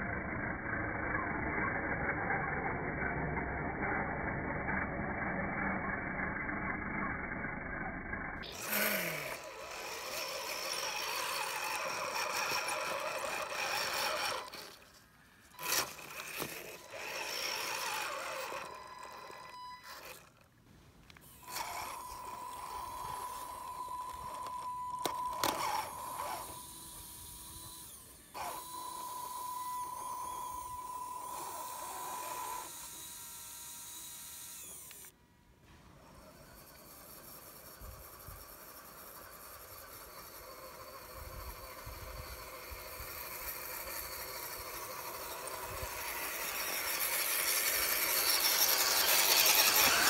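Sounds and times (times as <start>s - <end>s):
small electric motor whine: 0.0s - 50.0s
winch whining: 8.4s - 20.5s, 21.1s - 35.2s, 35.9s - 50.0s.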